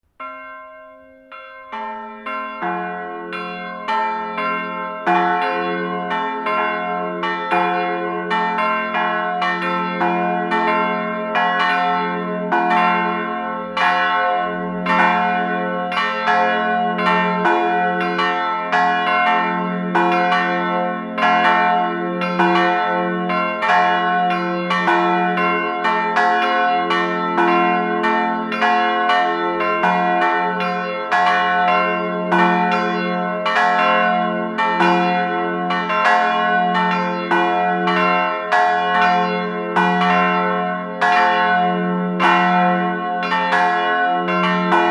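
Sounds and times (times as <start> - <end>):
bells ringing: 0.2 - 44.9.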